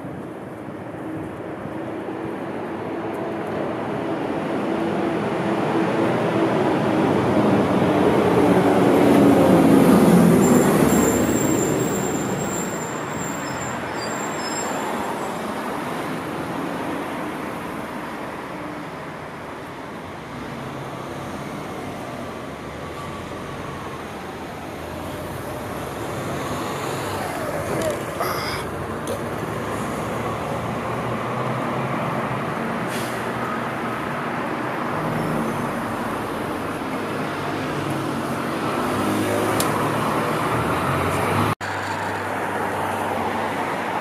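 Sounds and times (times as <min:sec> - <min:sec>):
bus passing by: 0:00.0 - 0:44.0
light street traffic: 0:00.0 - 0:44.0.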